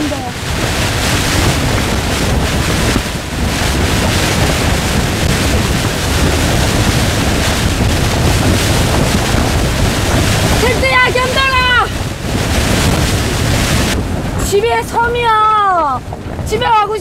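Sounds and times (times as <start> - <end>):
wind and heavy rain on a tent: 0.0 - 17.0
wind buffeting microphone: 0.0 - 17.0.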